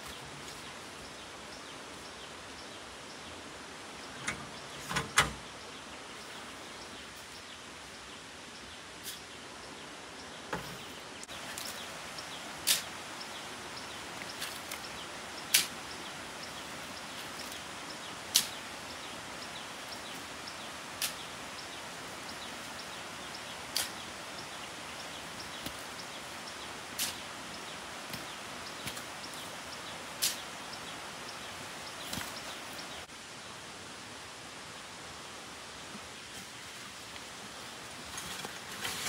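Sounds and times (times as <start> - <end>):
steady outdoor hiss: 0.0 - 39.0.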